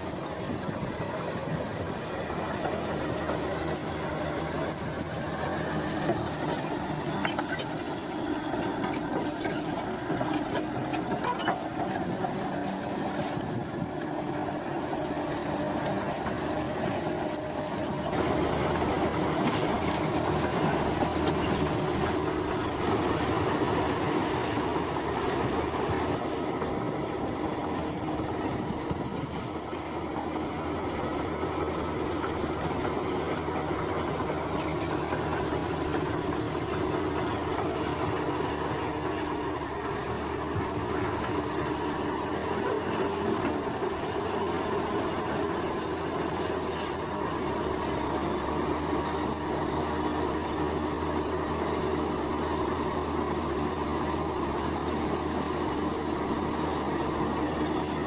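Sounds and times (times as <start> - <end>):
diesel engine running: 0.0 - 58.0
steel tracks clanking and squealing: 0.0 - 58.0.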